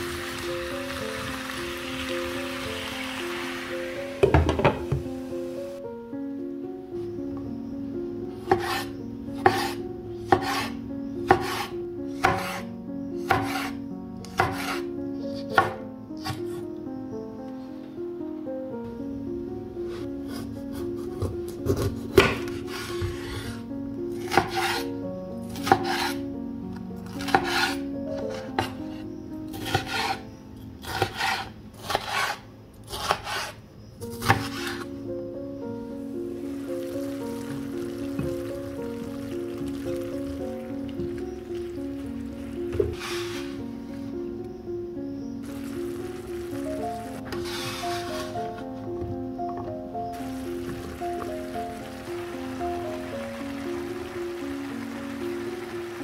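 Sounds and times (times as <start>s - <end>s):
background music with held chords: 0.0s - 30.9s, 34.0s - 56.0s.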